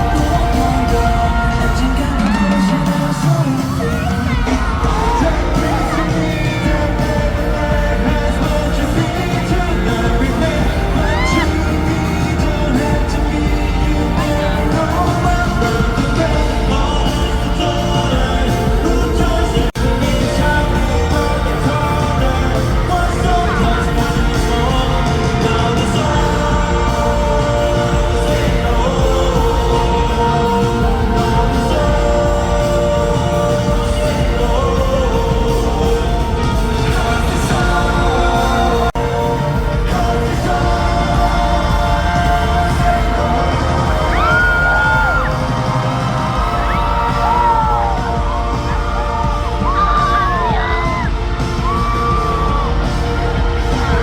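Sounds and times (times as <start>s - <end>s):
live pop song with singing: 0.0s - 54.0s.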